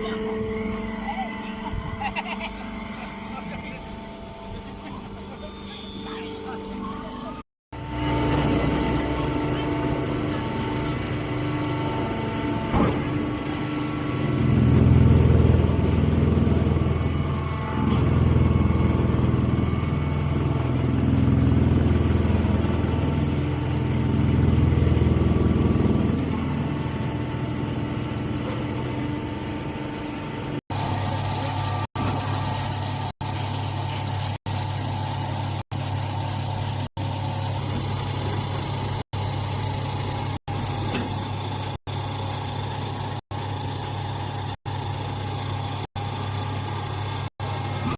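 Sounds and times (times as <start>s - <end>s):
hay baler motor and pump hum: 0.0s - 47.9s.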